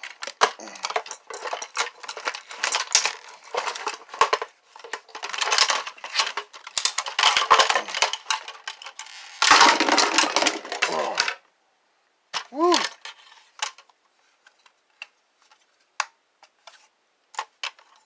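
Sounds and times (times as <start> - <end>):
plastic parts clattering: 0.0 - 11.4, 12.4 - 18.0.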